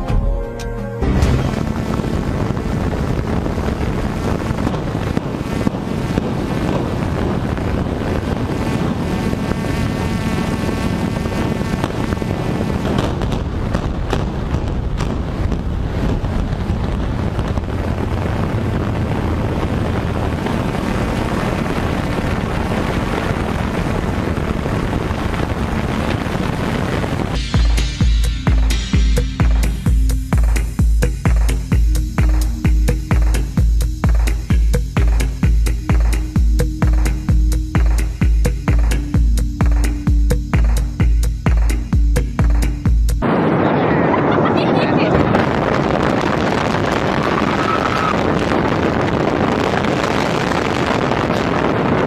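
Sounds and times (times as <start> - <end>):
low rumble: 0.0 - 52.0
faint whine: 1.1 - 28.7, 29.8 - 52.0
wind rushing on microphone: 1.1 - 52.0.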